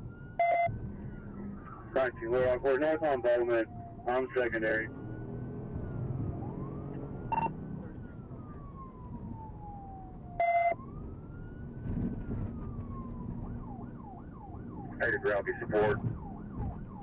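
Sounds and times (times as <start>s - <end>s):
police siren wailing and yelping: 0.0s - 17.0s
vehicle engine and road noise: 0.0s - 17.0s.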